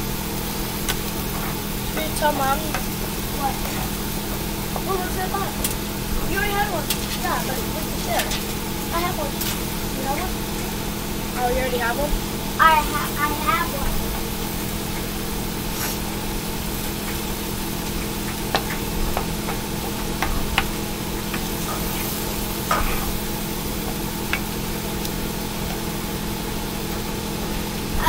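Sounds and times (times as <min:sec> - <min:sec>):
eggs sizzling in a frying pan: 0:00.0 - 0:28.0
steady hum: 0:00.0 - 0:28.0.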